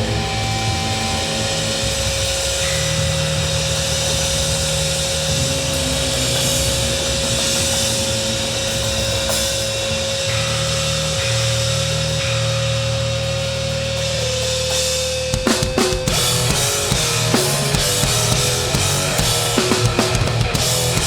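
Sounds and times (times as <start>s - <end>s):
distorted guitar and bass: 0.0s - 21.0s.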